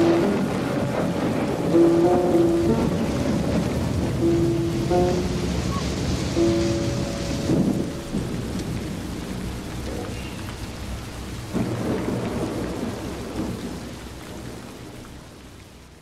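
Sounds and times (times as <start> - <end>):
low rolling thunder: 0.0 - 16.0
steady rain: 0.0 - 16.0.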